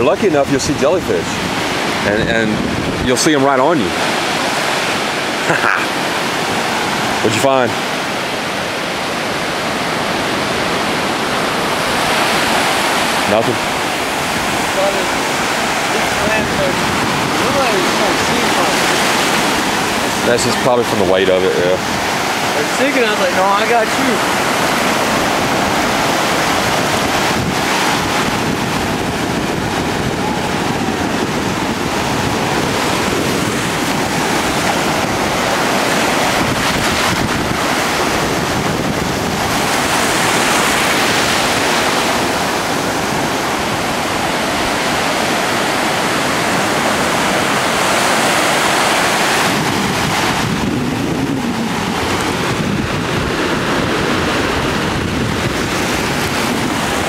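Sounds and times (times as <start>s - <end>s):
small waves breaking on sand: 0.0s - 57.0s
wind buffeting microphone: 0.0s - 57.0s.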